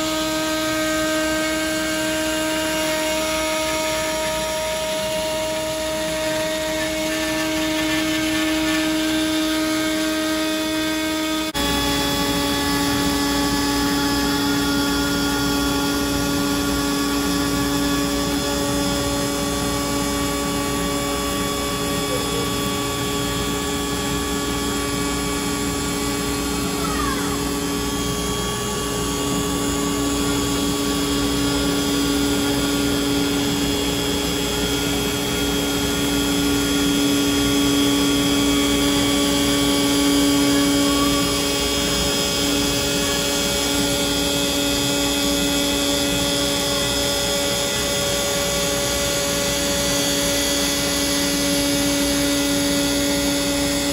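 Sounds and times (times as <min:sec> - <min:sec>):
bit cutting wood: 0:00.0 - 0:53.9
router spindle whine: 0:00.0 - 0:53.9.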